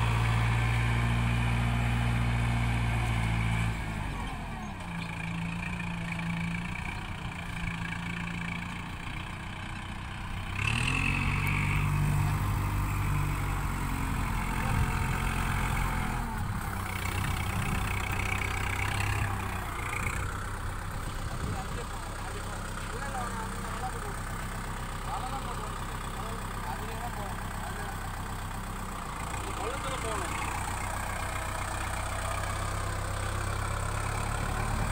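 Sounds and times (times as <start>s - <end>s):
tractor diesel engine revving: 0.0s - 34.9s.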